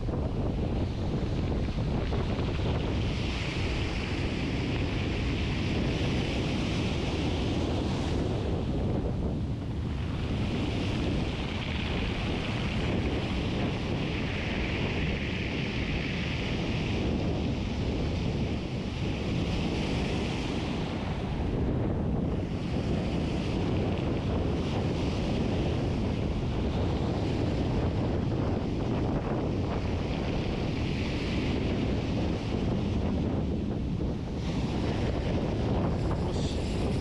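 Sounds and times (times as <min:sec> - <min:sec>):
waves breaking on beach: 0:00.0 - 0:37.0
wind buffeting microphone: 0:00.0 - 0:37.0.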